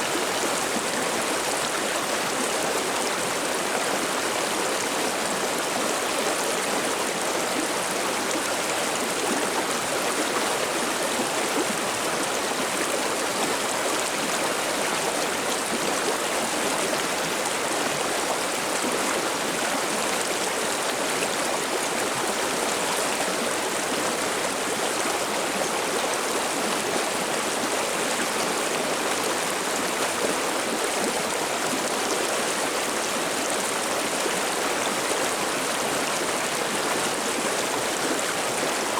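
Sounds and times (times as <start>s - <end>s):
river water babbling over stones: 0.0s - 38.9s.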